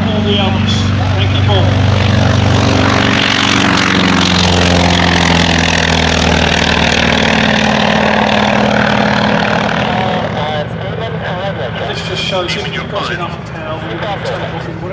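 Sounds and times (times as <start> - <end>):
radial aircraft engine running: 0.0 - 14.9.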